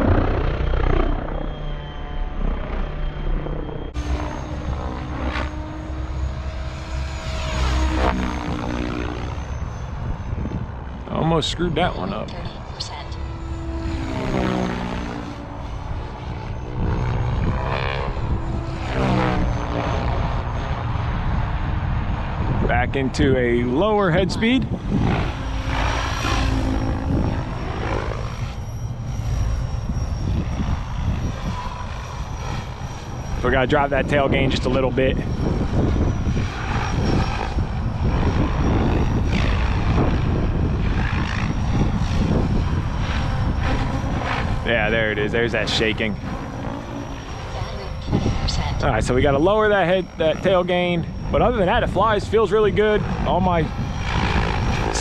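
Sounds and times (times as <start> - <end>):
rc helicopter rotor whine: 0.0 - 55.0.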